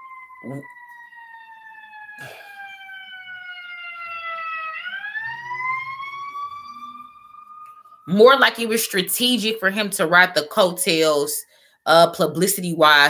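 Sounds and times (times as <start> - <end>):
siren wailing: 0.0 - 11.8.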